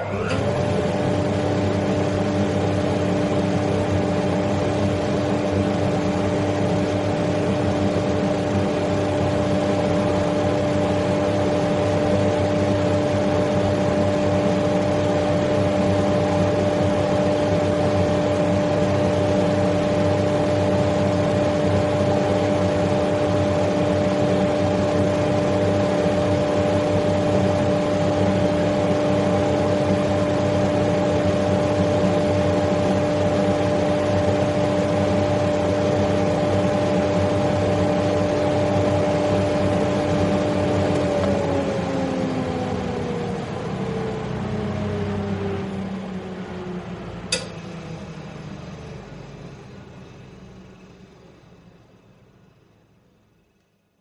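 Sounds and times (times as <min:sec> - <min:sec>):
extractor fan air rush: 0:00.0 - 0:53.6
fan motor hum: 0:00.0 - 0:54.0.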